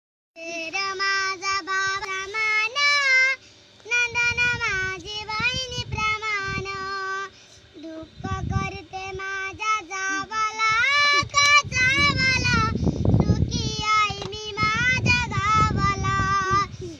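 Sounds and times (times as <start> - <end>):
girl singing: 0.4 - 16.9
low rumbling noise: 0.4 - 16.9.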